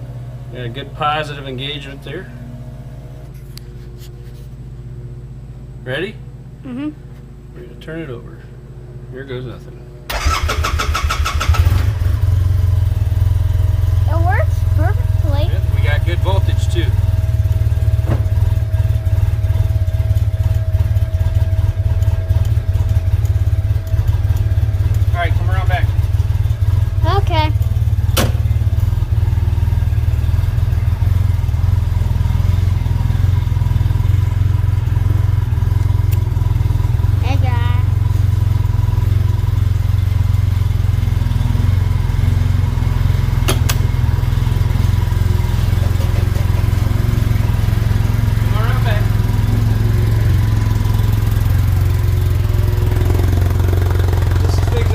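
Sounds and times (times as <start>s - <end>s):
utility vehicle engine idling: 0.0s - 54.9s.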